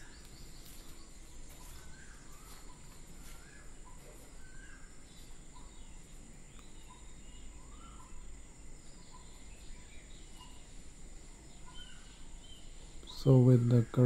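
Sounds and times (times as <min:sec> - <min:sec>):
low outdoor hum: 0:00.0 - 0:14.0
small birds chirping: 0:00.0 - 0:14.0.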